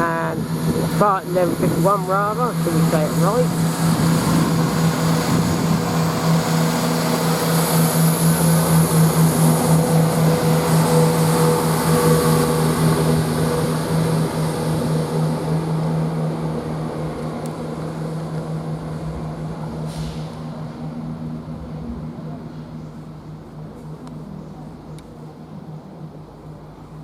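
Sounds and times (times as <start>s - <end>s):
train diesel engines droning: 0.0s - 27.0s.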